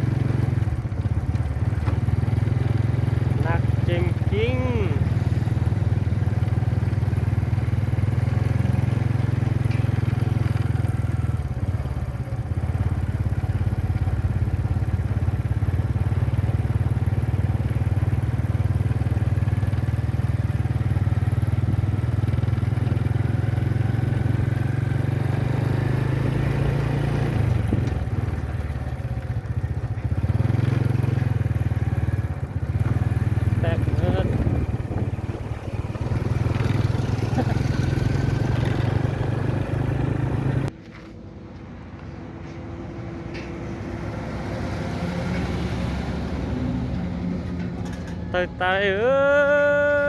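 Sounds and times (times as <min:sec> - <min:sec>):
vehicle engine droning: 0:00.0 - 0:50.0.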